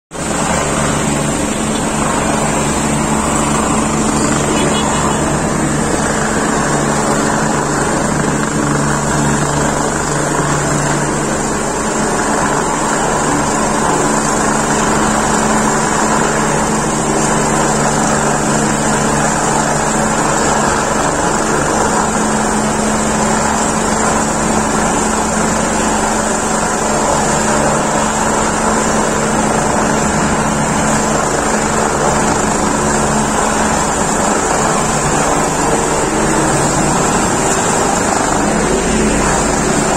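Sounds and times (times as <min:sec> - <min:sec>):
helicopter turbine and rotor drone: 0:00.1 - 0:39.9.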